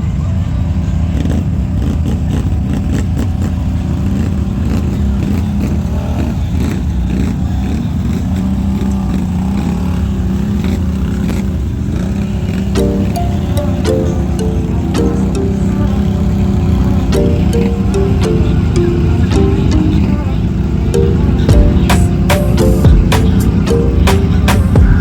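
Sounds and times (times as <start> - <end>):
atv engine running: 0.2 - 12.8, 14.0 - 25.0.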